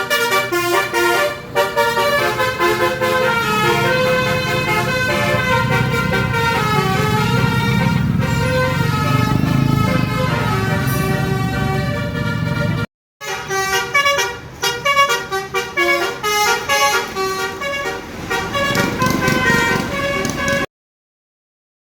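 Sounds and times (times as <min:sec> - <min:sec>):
bus engine rumble: 0:00.0 - 0:20.7
multi-tone musical bus horn: 0:00.0 - 0:20.7.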